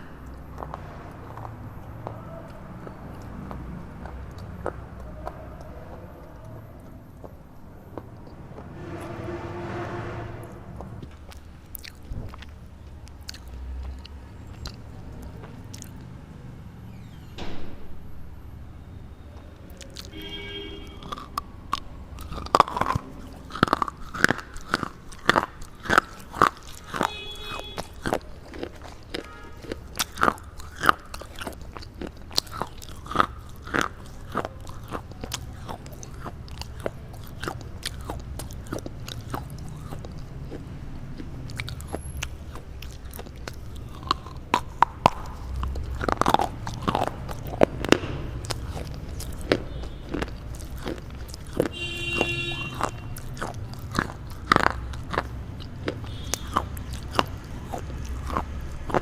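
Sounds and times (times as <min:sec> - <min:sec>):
crunching and chewing: 0:00.0 - 0:08.7, 0:11.0 - 0:16.7, 0:19.4 - 0:59.0.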